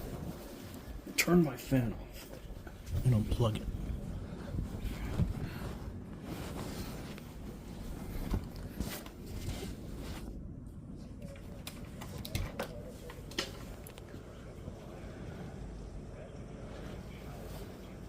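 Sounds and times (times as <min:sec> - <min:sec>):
fan low rumble: 0:00.0 - 0:18.0.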